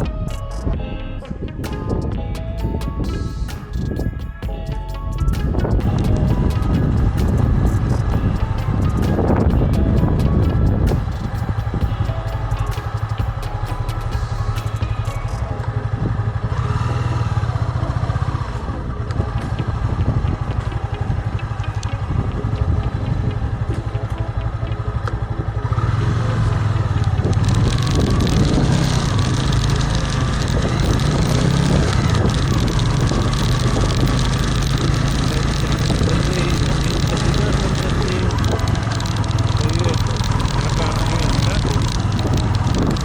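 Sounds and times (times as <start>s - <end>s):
wind and road noise: 0.0s - 43.0s
vehicle engine humming: 1.6s - 43.0s.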